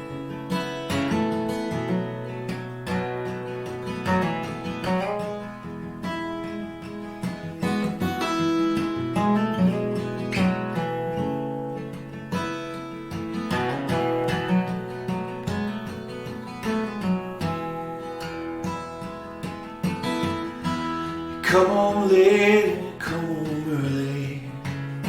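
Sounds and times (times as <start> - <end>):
acoustic guitar picked and strummed: 0.0 - 25.0.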